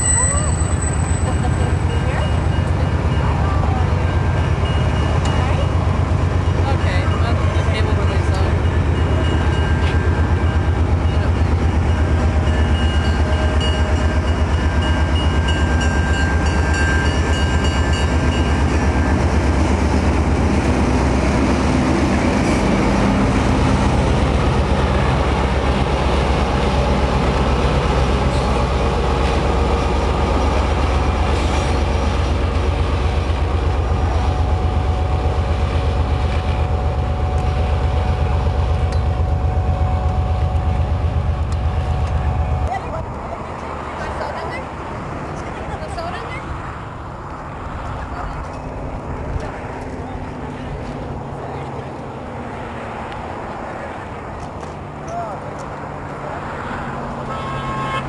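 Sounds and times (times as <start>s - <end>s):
train wheels rumbling on rails: 0.0s - 57.8s.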